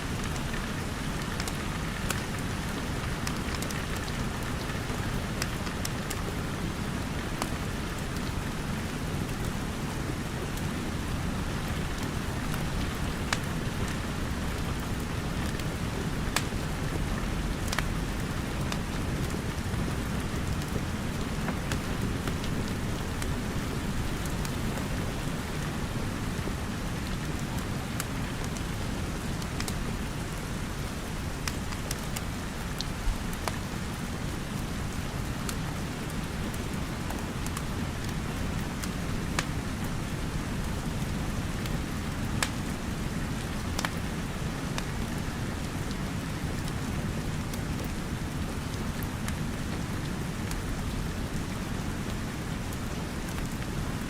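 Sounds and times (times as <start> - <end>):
steady rain falling: 0.0 - 54.0
wood fire crackling: 0.1 - 30.2, 31.4 - 54.0.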